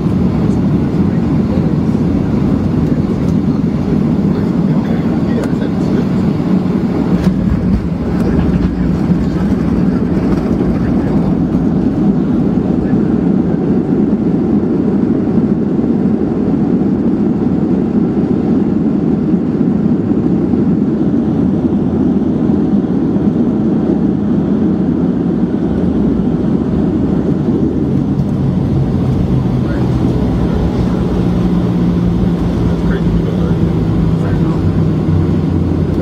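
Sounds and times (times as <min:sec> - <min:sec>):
aircraft cabin roar: 0:00.0 - 0:36.0
low two-tone hum: 0:00.0 - 0:36.0.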